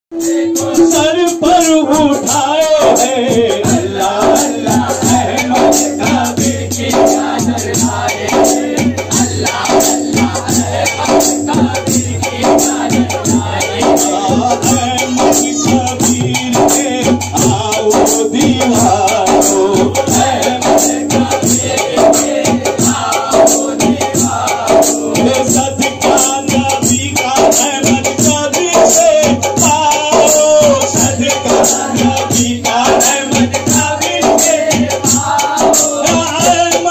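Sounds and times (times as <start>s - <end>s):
fast percussion beat: 0.1s - 36.9s
men singing a chant: 0.2s - 36.9s.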